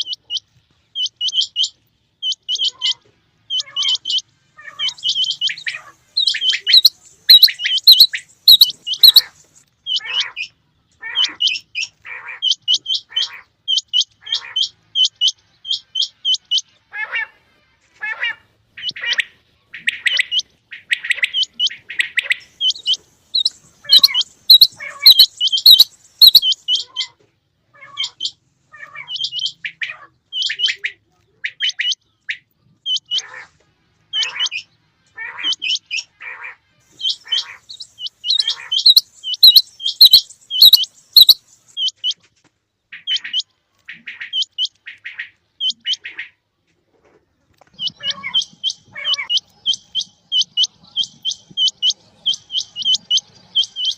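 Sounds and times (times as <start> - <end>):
quail calling: 0.0 - 27.2, 27.8 - 42.2, 42.9 - 46.4, 47.7 - 53.9.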